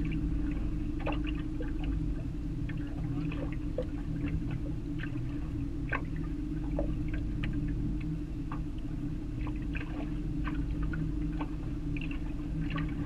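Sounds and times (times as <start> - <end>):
steady low hum: 0.0 - 13.0
water splashing against boat hull: 0.0 - 13.0.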